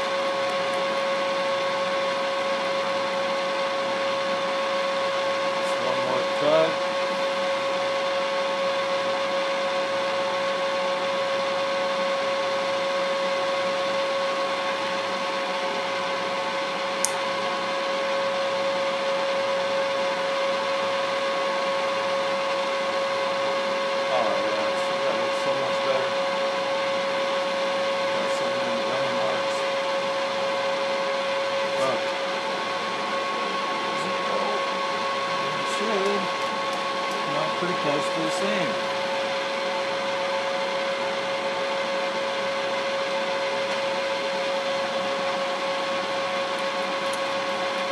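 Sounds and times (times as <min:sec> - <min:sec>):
milling machine whine: 0:00.0 - 0:47.9.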